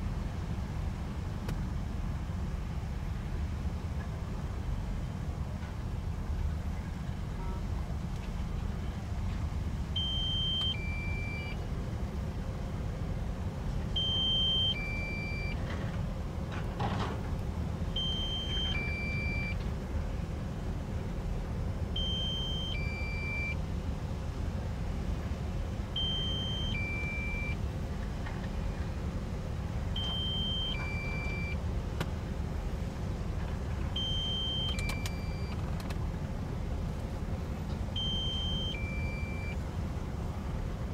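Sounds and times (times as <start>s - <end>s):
diesel engines rumbling: 0.0s - 40.9s.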